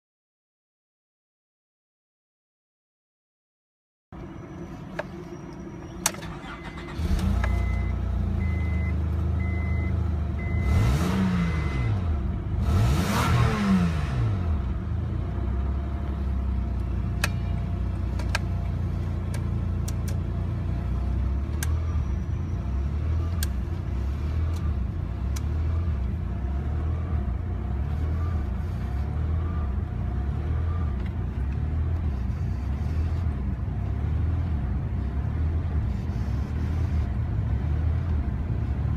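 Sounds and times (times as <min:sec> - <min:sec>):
car engine starting and idling: 0:04.2 - 0:38.9.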